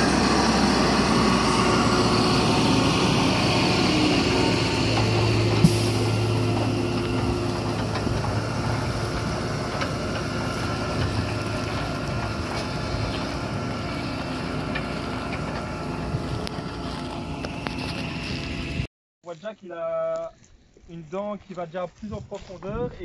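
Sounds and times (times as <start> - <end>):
tractor engine drone: 0.0 - 18.9.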